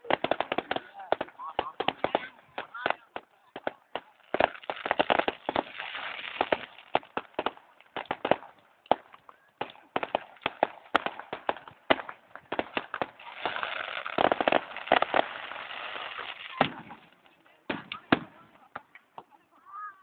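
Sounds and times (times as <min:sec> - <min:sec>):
fireworks banging and crackling: 0:00.0 - 0:19.6.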